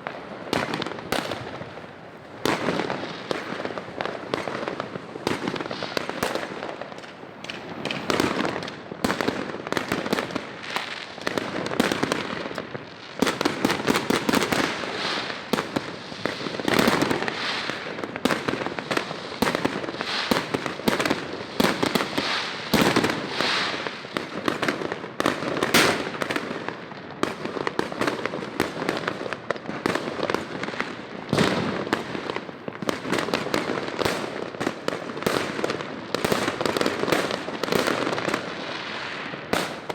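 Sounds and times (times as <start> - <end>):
fireworks bangs and crackling pops: 0.0 - 39.9.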